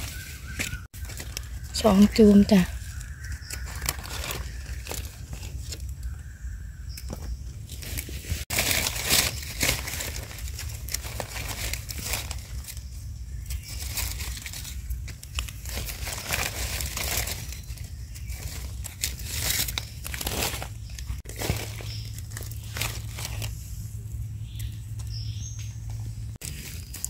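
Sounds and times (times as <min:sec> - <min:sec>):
dry leaves rustling: 0:00.0 - 0:06.5, 0:07.6 - 0:27.0.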